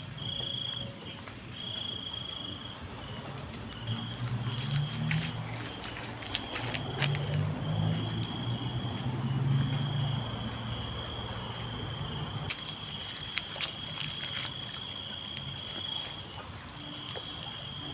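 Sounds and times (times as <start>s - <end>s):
crickets chirring: 0.0s - 17.9s.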